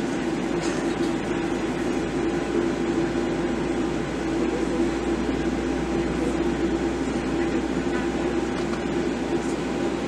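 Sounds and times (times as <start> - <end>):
airliner cabin drone: 0.0 - 10.0.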